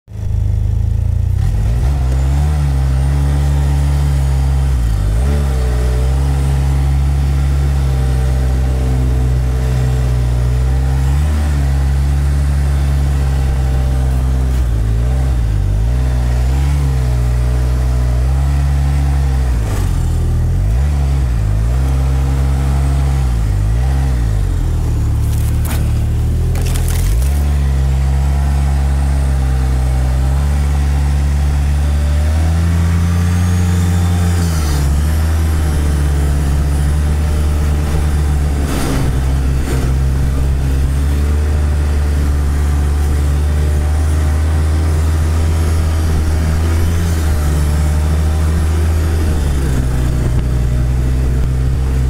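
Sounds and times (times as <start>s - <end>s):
snowmobile engine running: 0.1s - 52.0s.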